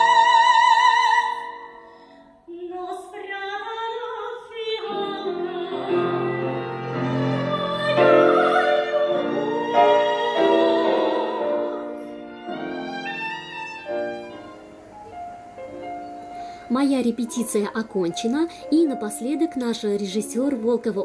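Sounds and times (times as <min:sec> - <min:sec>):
piano: 0:00.0 - 0:21.0
soprano singing: 0:00.0 - 0:21.0
violin: 0:00.0 - 0:21.0.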